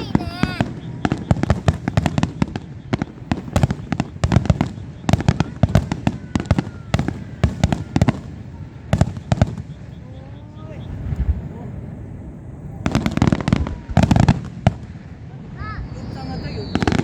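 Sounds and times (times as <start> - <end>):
whistle of rising firework: 0.0 - 11.5, 12.8 - 17.0
fireworks bursting: 0.0 - 17.0.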